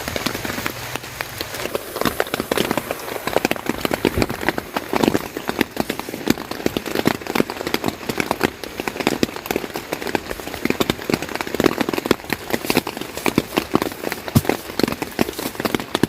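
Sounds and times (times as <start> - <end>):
rain on a hard surface: 0.0 - 16.0.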